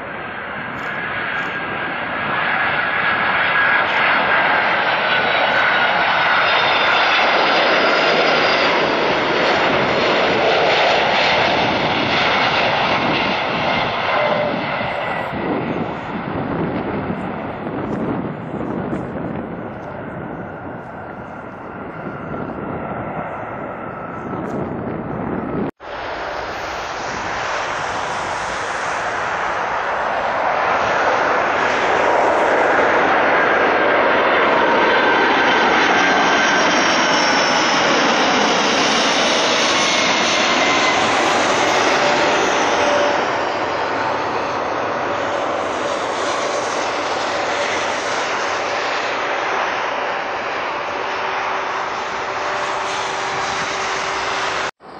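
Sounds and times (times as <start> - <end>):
jet engines roaring overhead: 0.0 - 54.9.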